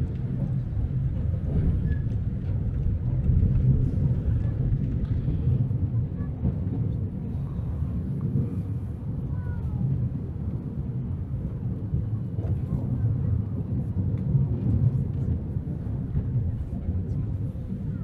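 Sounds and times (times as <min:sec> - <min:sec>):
tram running noise: 0:00.0 - 0:18.0
wind buffeting microphone: 0:00.0 - 0:18.0.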